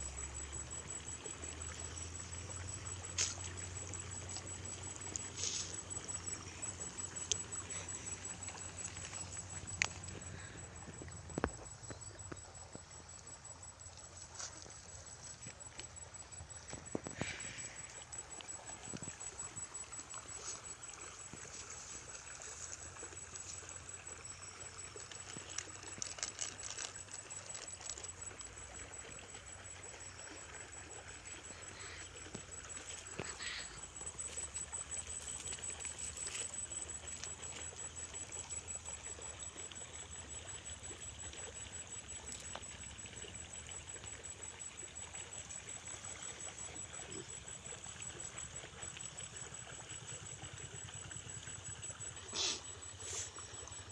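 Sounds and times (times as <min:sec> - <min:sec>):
faint trickling water: 0:00.0 - 0:53.9.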